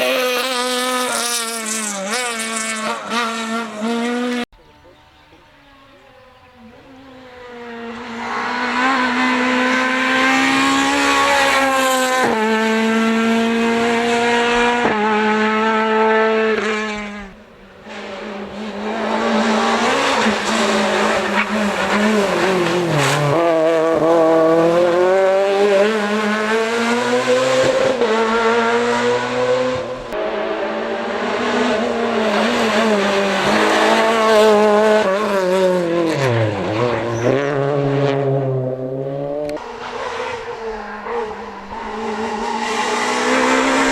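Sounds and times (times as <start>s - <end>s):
rally car engine revving hard: 0.0s - 4.5s, 7.1s - 43.9s.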